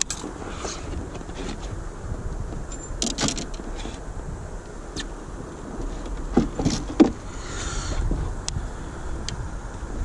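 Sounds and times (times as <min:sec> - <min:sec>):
water moving along boat: 0:00.0 - 0:10.0
wind rumble on microphone: 0:00.0 - 0:10.0.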